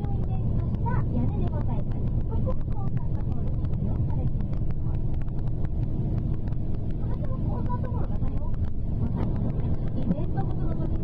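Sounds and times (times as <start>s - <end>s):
bus road and engine rumble: 0.0s - 11.0s.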